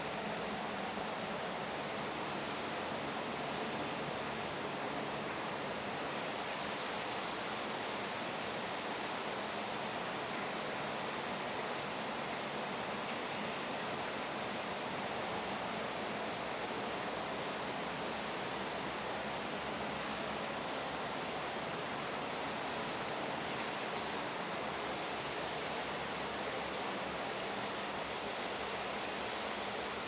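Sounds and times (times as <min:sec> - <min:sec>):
rush of falling water: 0:00.0 - 0:30.0.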